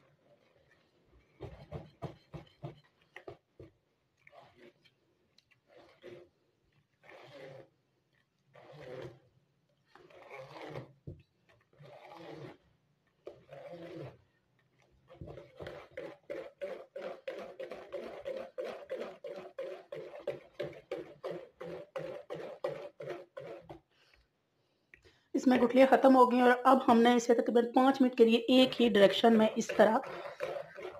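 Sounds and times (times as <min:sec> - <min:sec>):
whisk beating batter in plastic bowl: 0:00.0 - 0:23.9, 0:27.4 - 0:30.9.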